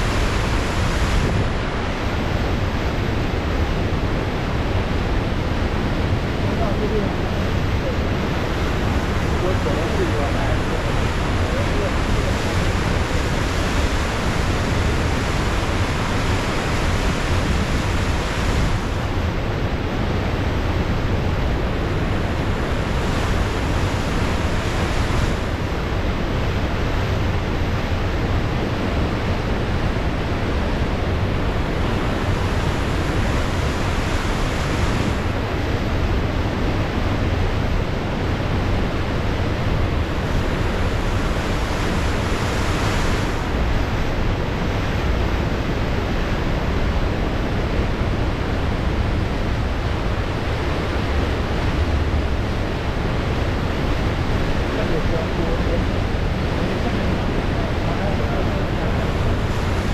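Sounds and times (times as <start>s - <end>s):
ocean surf roaring: 0.0s - 59.9s
wind rumbling on microphone: 0.0s - 59.9s.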